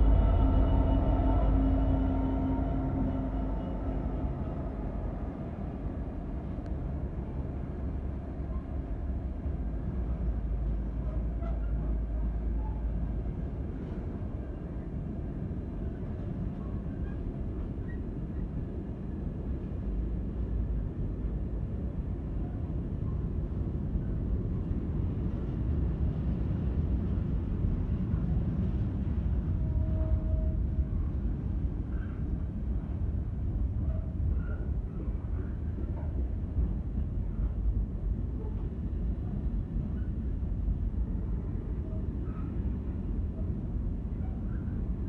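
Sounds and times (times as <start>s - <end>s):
freight train rumbling on rails: 0.0s - 45.0s.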